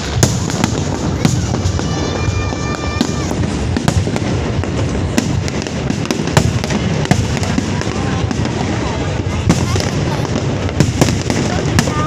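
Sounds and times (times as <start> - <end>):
fireworks bangs: 0.0 - 12.0
fireworks rumble and crackle: 0.0 - 12.0.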